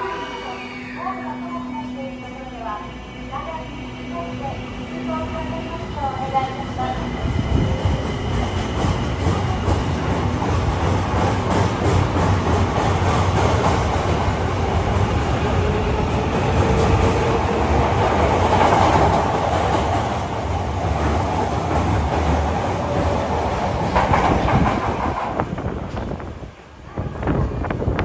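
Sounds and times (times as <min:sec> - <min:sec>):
subway train pulling out: 0:00.0 - 0:28.0.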